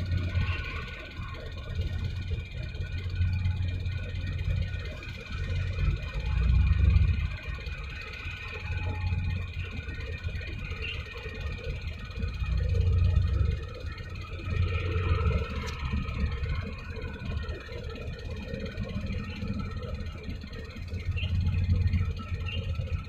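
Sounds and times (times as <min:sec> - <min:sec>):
faint high whine: 0:00.0 - 0:23.0.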